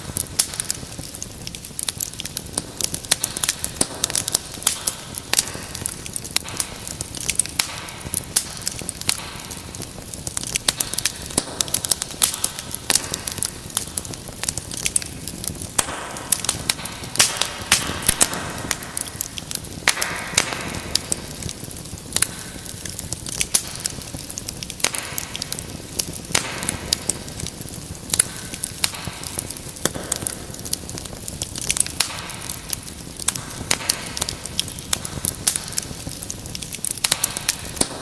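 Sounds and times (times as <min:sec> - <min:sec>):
fireplace fire crackling: 0:00.0 - 0:38.0
sharp pops of fire: 0:00.0 - 0:38.0.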